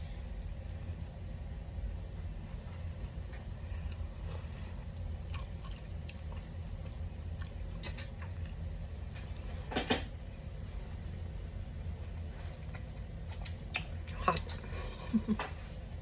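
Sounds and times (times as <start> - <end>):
quiet chewing: 0.0 - 1.2, 2.2 - 9.6, 11.0 - 15.9
steady low hum: 0.0 - 16.0.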